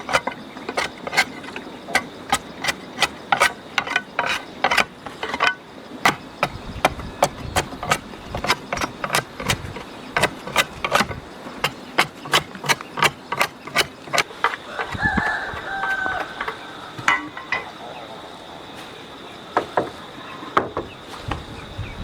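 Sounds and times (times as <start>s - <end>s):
hand tool striking: 0.0s - 17.8s.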